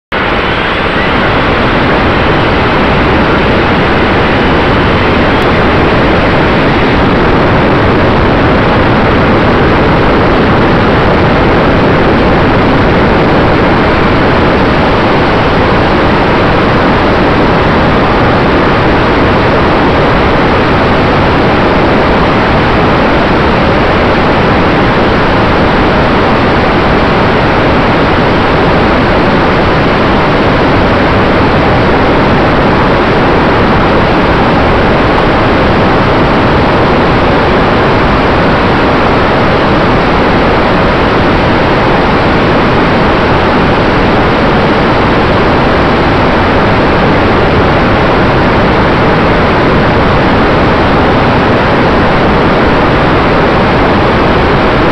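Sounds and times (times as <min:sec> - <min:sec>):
faint steady whine: 0:00.0 - 0:54.9
wind and propeller rushing: 0:00.1 - 0:54.9.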